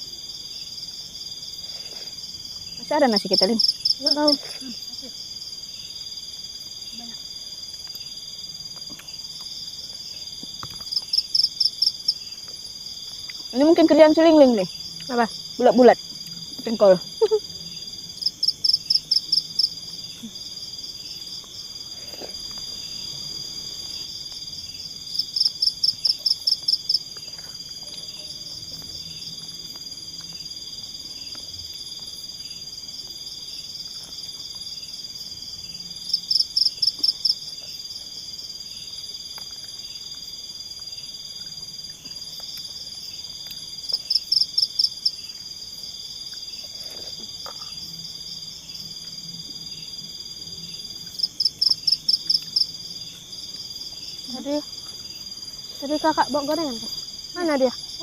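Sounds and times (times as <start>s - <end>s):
crickets buzzing: 0.0s - 58.0s
insect pulsed trill: 0.0s - 58.0s.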